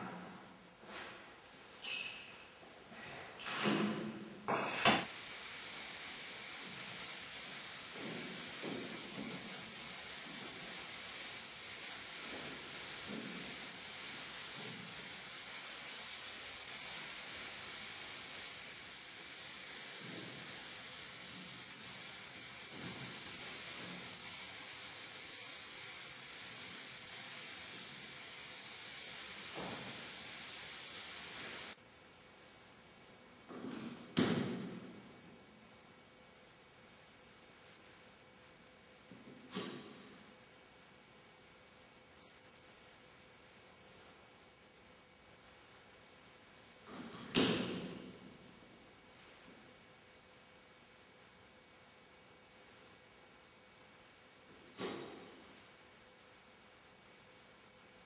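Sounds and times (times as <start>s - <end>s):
steady high hiss: 0.0s - 58.0s.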